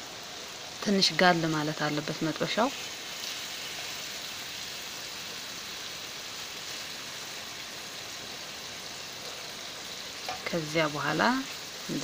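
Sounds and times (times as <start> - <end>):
steaks sizzling in oil: 0.0 - 12.0.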